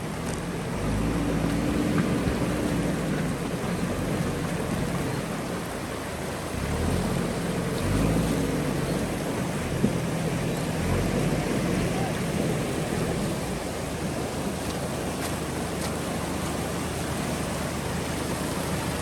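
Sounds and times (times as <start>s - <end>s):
diesel engine working: 0.0s - 19.0s
fast-flowing river water: 0.0s - 19.0s.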